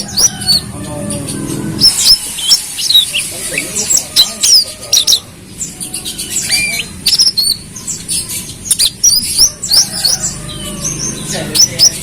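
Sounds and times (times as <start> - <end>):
sunbird singing: 0.0 - 12.0.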